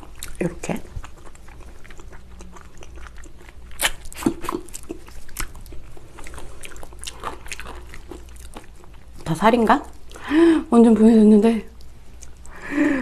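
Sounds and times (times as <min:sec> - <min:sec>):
close chewing and mouth smacks: 0:00.0 - 0:10.2, 0:11.7 - 0:12.6.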